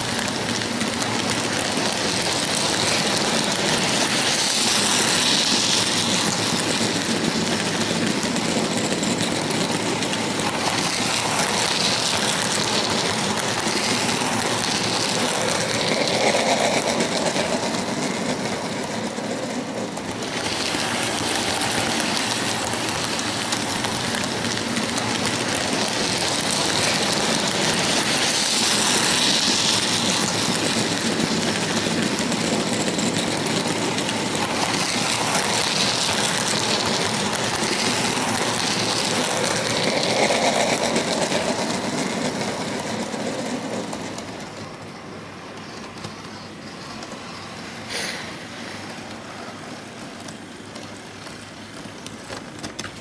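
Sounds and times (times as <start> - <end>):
model train wheels rumbling on track: 0.0 - 53.0.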